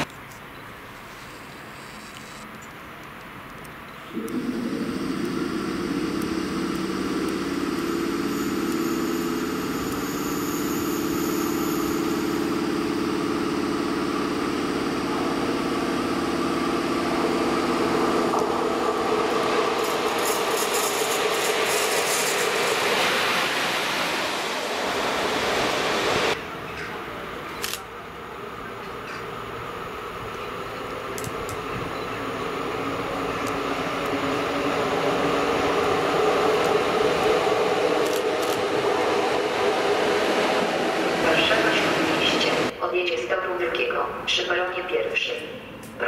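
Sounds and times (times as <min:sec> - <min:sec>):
electric locomotive hum: 0:03.2 - 0:46.0
wheel and rail rushing noise: 0:04.1 - 0:42.8.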